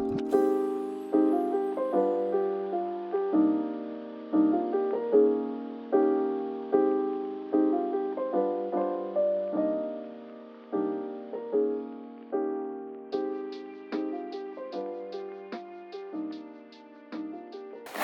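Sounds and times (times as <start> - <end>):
soft piano music: 0.0 - 17.8.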